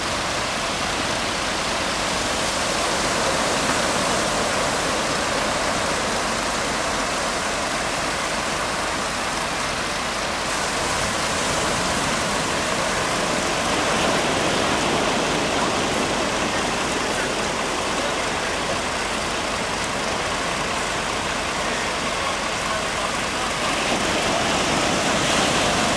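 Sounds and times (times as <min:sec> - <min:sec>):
surf breaking on beach: 0:00.0 - 0:25.9.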